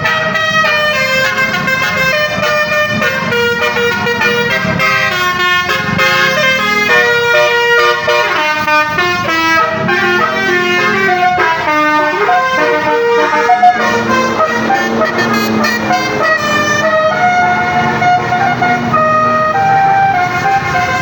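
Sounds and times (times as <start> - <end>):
musical bus horn playing a tune: 0.0 - 21.0.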